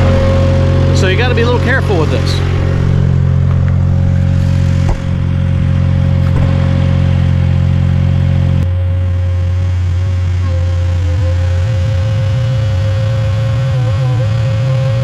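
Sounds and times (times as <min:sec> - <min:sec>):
thin steady whine: 0:00.0 - 0:15.0
tractor engine running: 0:00.0 - 0:15.0.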